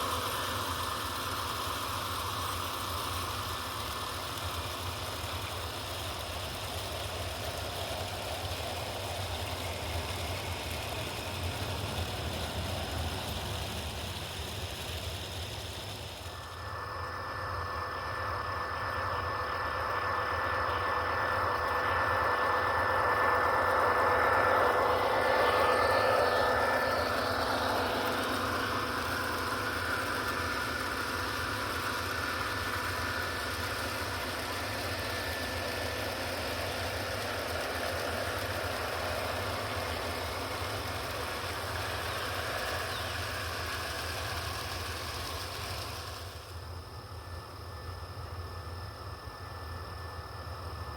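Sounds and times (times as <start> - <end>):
diesel engine sound effect: 0.0 - 50.9
model train wheels rolling: 0.0 - 50.9.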